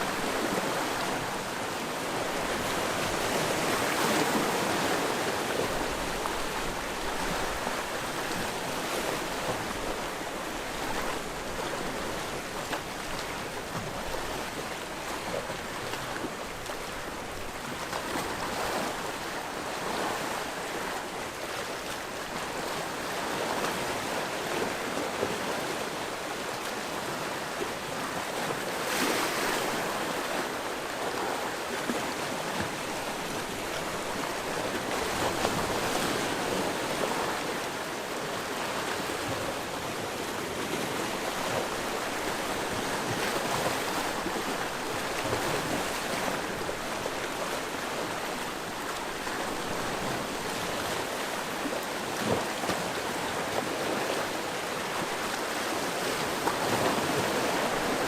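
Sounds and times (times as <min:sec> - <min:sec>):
waves washing on rocky shore: 0:00.0 - 0:58.0.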